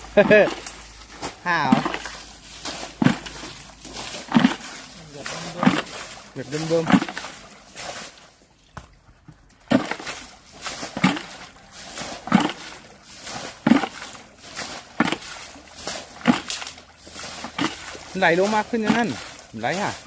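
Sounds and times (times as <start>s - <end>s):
water splashing: 0.0s - 20.0s.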